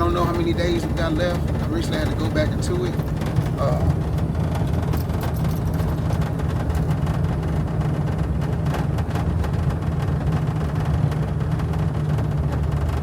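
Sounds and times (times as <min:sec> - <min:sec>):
vehicle rumbling inside cabin: 0:00.0 - 0:13.0.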